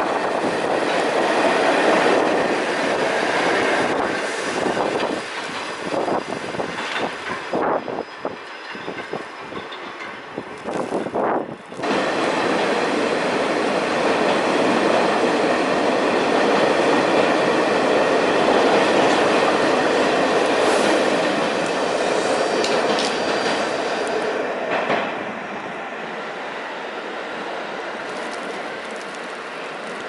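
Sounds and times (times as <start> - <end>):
subway train wheels clattering: 0.0 - 30.0.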